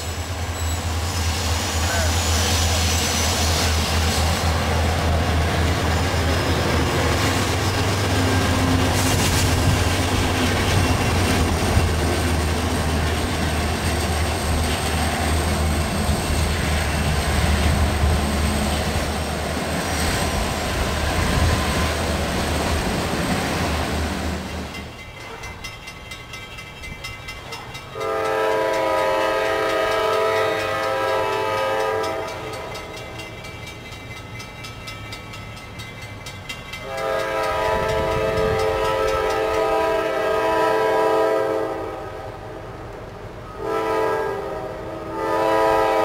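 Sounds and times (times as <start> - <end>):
train wheels rolling on rails: 0.0 - 44.0
diesel locomotive engine rumble: 0.0 - 46.0.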